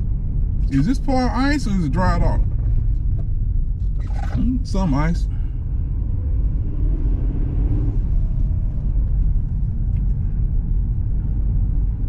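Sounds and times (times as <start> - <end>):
car engine: 0.0 - 12.0
road and tyre noise: 0.0 - 12.0.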